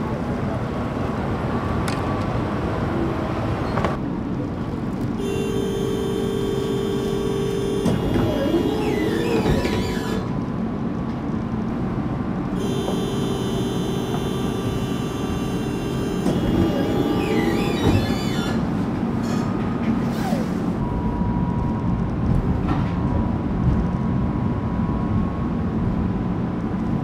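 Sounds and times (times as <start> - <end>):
tram low rumble: 0.0 - 27.0.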